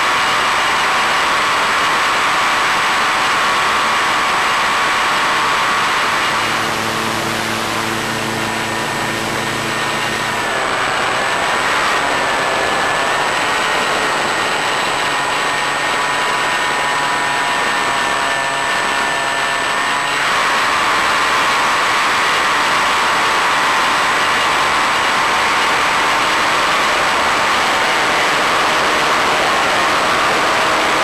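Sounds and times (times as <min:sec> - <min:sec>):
model plane motor whining: 0:00.0 - 0:31.0.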